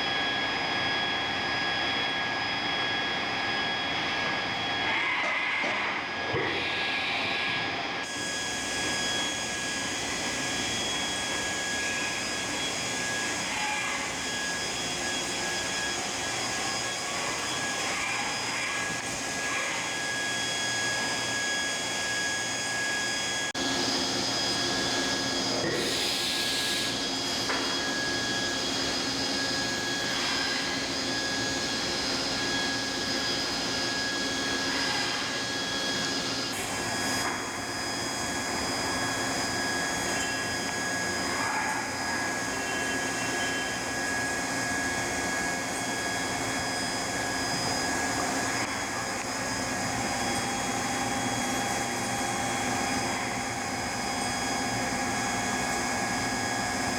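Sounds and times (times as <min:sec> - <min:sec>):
machine whine with high tones: 0:00.0 - 0:56.9.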